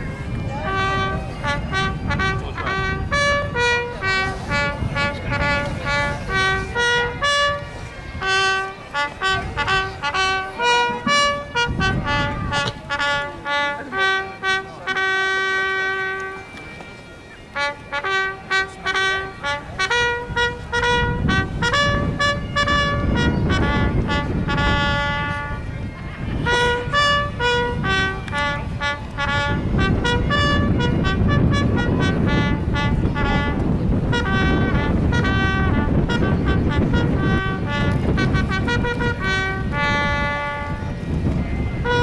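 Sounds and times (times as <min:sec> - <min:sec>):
low rumbling noise: 0:00.0 - 0:14.9, 0:17.5 - 0:42.0
bugle playing: 0:00.0 - 0:42.0.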